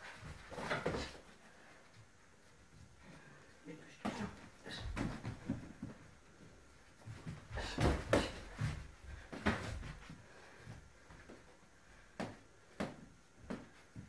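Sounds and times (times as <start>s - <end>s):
shuffling footsteps: 0.0s - 14.0s.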